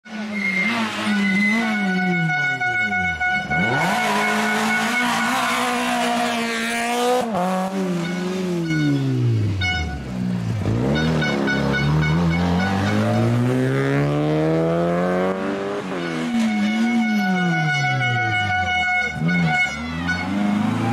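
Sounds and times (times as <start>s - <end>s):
rally car engines at full throttle: 0.0s - 20.9s.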